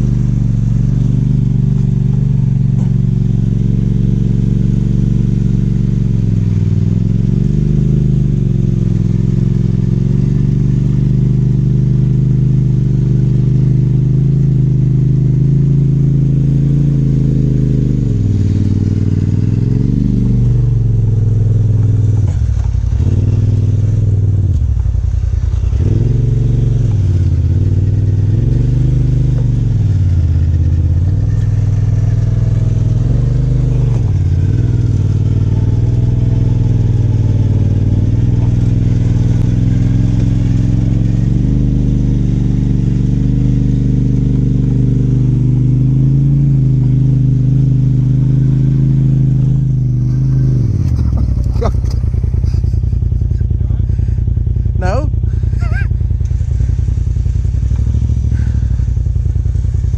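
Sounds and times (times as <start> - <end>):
engine running near idle: 0.0 - 59.9.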